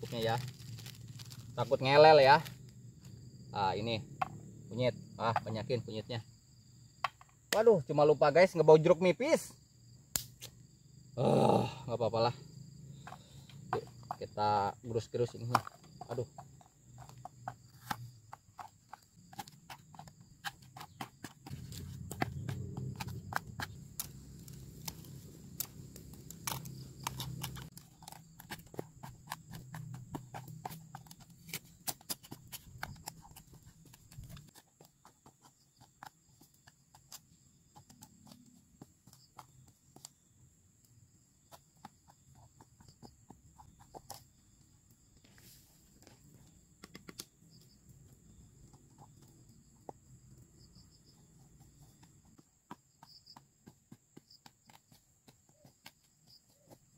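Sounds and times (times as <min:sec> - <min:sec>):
insects buzzing: 0:00.0 - 0:56.9.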